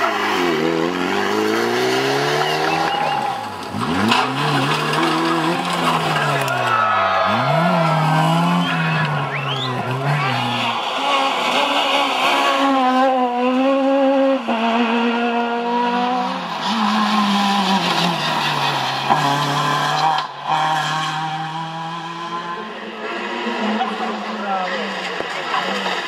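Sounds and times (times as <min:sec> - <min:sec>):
rally car engines revving: 0:00.0 - 0:26.0
tyre noise on road: 0:00.0 - 0:26.0.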